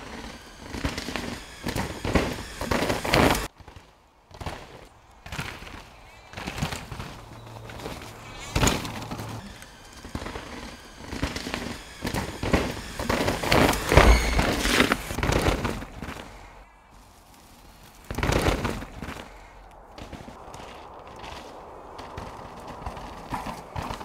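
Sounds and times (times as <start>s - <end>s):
bike tyres tearing through mud: 0.0s - 24.0s.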